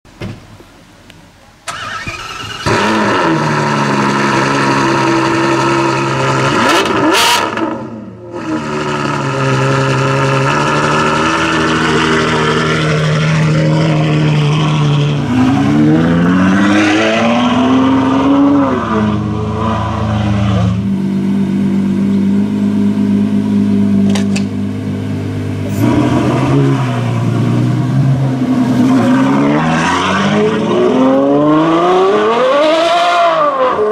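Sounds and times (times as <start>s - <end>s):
sports car engine revving: 2.6s - 33.9s.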